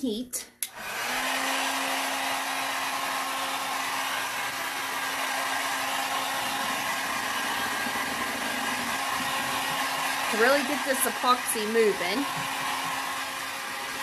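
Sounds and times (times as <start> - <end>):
heat gun blowing air: 0.6 - 14.0.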